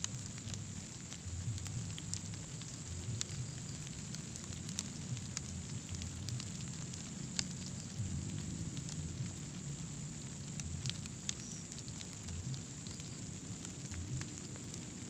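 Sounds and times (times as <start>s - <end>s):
sharp crackles and clicks: 0.0s - 15.0s.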